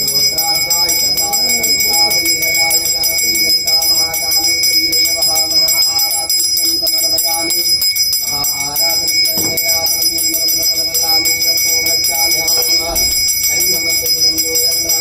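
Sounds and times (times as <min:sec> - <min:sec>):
bell ringing rapidly: 0:00.0 - 0:15.0
voices chanting: 0:00.0 - 0:15.0.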